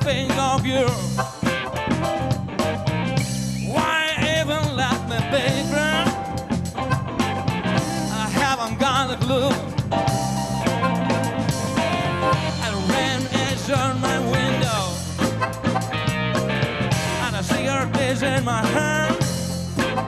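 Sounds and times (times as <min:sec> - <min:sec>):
blues band playing: 0:00.0 - 0:20.0
harmonica bending notes: 0:00.0 - 0:20.0.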